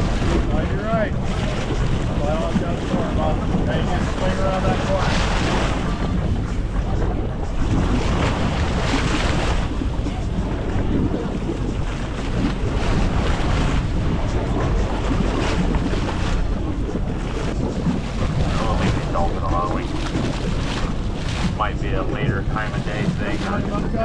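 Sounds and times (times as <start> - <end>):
boat engine drone: 0.0 - 24.0
sea water rushing along hull: 0.0 - 24.0
wind buffeting microphone: 0.0 - 24.0.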